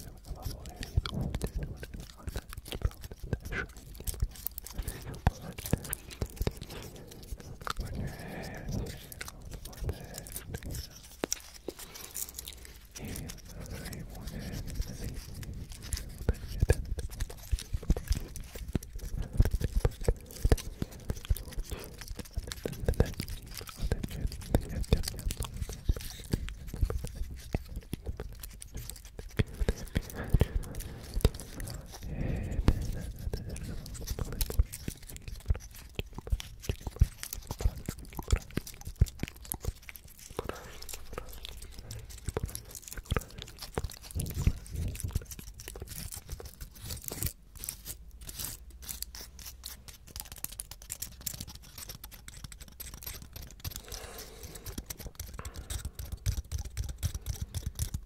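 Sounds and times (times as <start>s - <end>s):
pine cone scales crackling: 0.0s - 58.0s.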